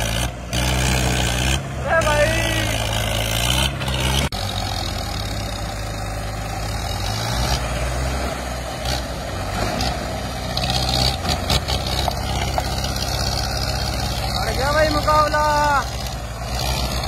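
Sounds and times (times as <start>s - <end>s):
diesel tractor engines under load: 0.0s - 17.0s.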